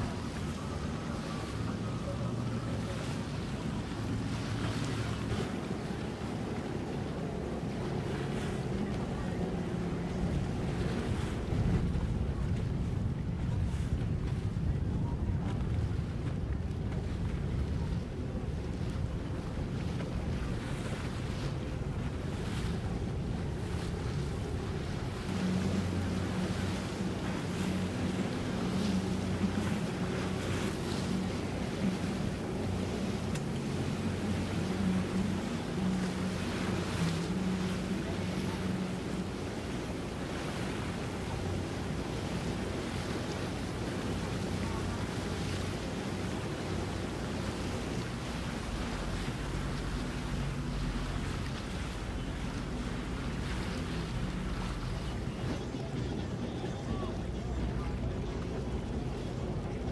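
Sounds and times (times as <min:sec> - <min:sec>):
boat engines humming: 0:00.0 - 0:59.9
choppy water: 0:00.0 - 0:59.9
small waves washing: 0:00.0 - 0:59.9
wind buffeting microphone: 0:00.0 - 0:59.9.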